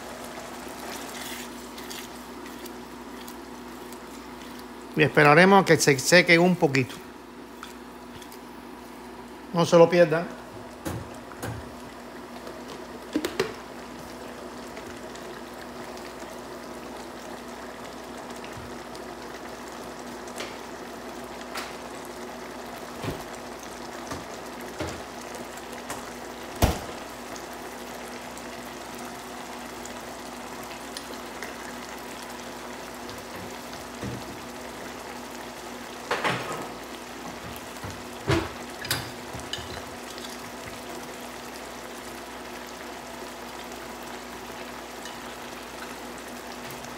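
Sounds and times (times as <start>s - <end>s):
sauce bubbling: 0.0s - 5.5s, 10.4s - 36.1s, 36.7s - 46.9s.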